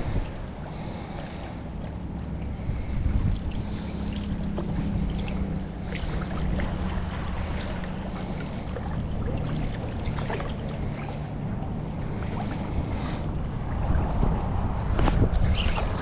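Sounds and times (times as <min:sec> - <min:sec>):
water ticks and splashes: 0:00.0 - 0:13.4
boat motor humming: 0:00.0 - 0:16.0.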